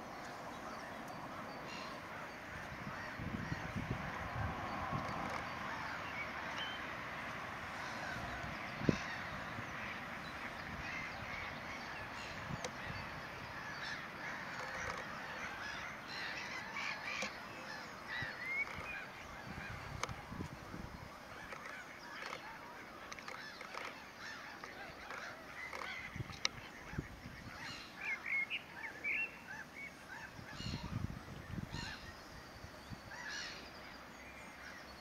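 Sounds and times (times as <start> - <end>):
gulls calling: 0.0 - 32.1.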